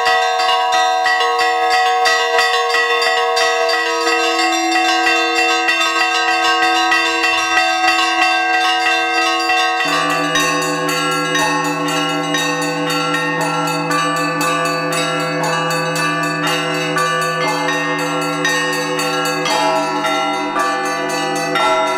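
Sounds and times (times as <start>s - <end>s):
deep bell: 0.0s - 21.9s
hum of large bells: 0.0s - 21.9s
small church bells ringing rapidly: 0.0s - 21.9s.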